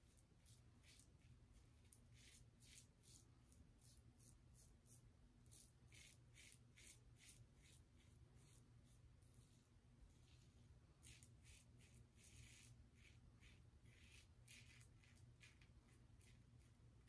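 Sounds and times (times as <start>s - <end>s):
razor scratching stubble: 0.4s - 16.8s.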